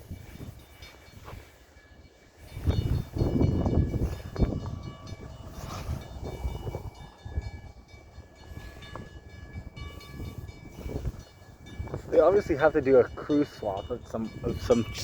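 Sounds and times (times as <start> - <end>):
crossing bell ringing: 0.0 - 15.0
train low rumble: 0.0 - 15.0.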